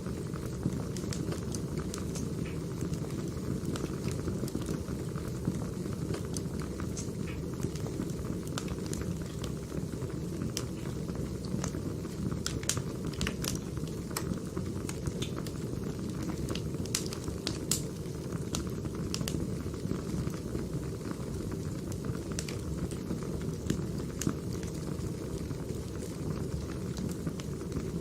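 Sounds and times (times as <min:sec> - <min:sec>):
firewood crackling: 0:00.0 - 0:28.0
low rush of flames: 0:00.0 - 0:28.0.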